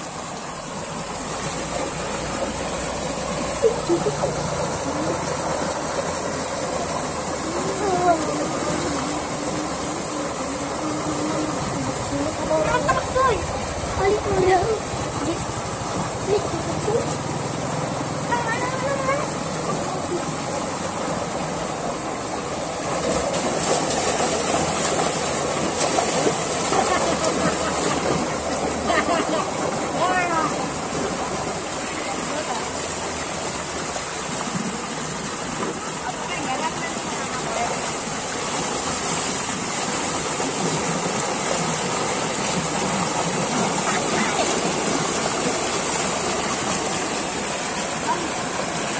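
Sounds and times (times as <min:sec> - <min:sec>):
water pouring and frothing: 0:00.0 - 0:48.9
water rushing and splashing: 0:00.0 - 0:48.9.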